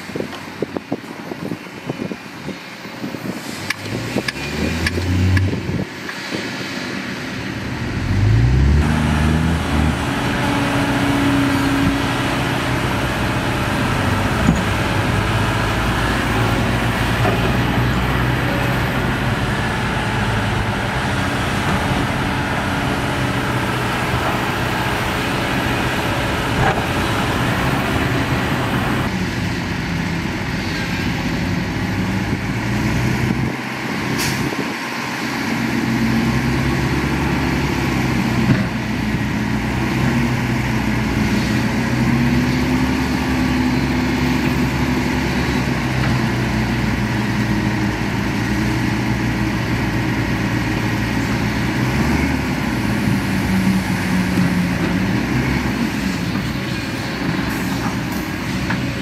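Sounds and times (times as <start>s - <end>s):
heavy diesel engine running: 3.0s - 59.0s.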